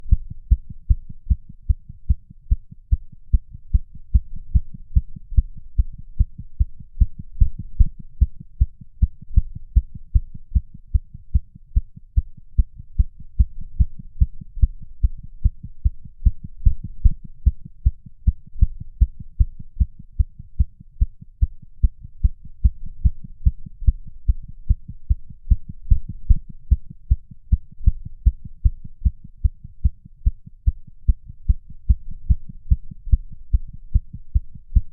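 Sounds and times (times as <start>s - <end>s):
rapid heartbeat thuds: 0.0s - 34.9s.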